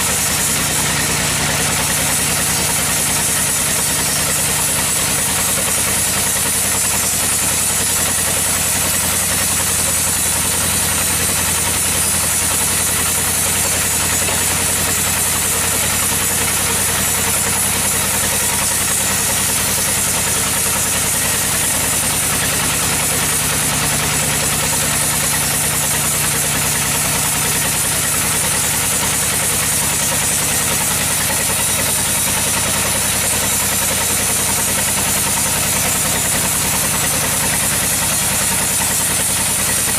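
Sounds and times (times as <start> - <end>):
engine humming: 0.0 - 39.9
high machine hiss: 0.0 - 39.9.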